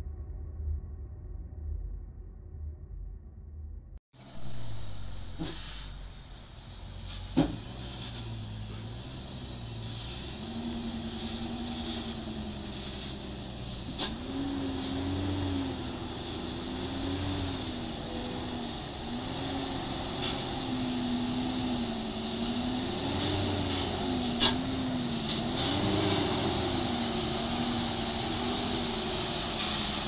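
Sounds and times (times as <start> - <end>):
diesel truck engine running: 4.2 - 30.0
steady hiss: 4.2 - 30.0.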